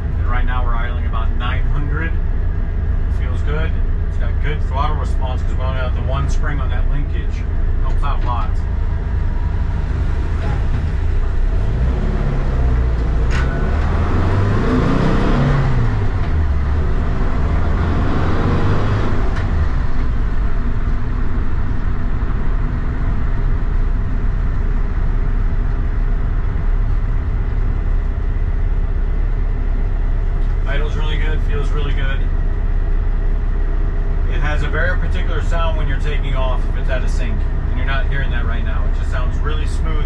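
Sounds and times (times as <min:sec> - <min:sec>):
road noise: 0:00.0 - 0:40.0
van engine while driving: 0:00.0 - 0:40.0.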